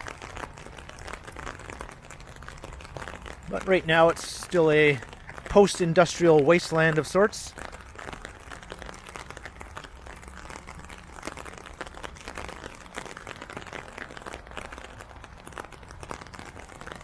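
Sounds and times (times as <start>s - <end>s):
rain drops crackling: 0.0s - 17.0s.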